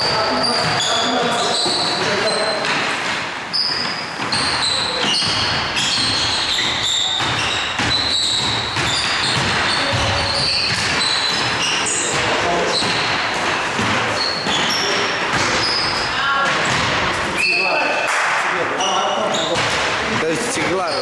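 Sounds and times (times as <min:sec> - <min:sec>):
basketball bouncing: 0:00.0 - 0:17.3
sneakers squeaking on court: 0:00.0 - 0:18.1, 0:18.8 - 0:21.0.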